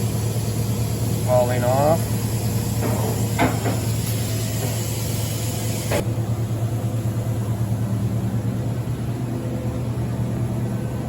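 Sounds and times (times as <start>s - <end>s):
machine electrical hum: 0.0s - 11.0s.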